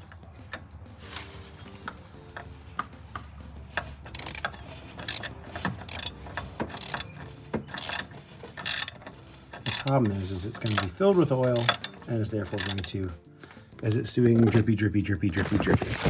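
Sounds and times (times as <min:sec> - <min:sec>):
ratchet wrench clicking: 0:00.1 - 0:13.1.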